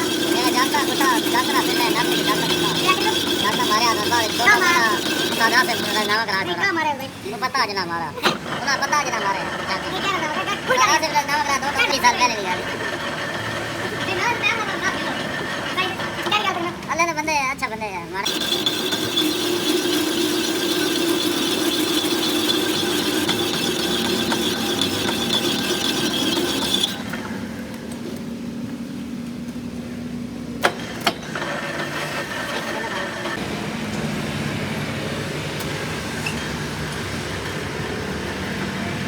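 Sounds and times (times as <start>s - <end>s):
steady machine noise: 0.0s - 17.0s, 18.2s - 28.4s, 30.6s - 39.0s.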